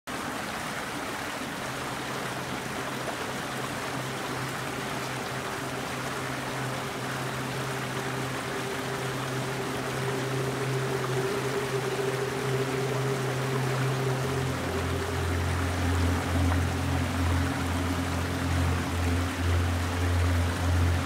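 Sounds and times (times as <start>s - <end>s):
flowing water rushing: 0.1s - 21.0s
low steady hum: 2.3s - 21.0s.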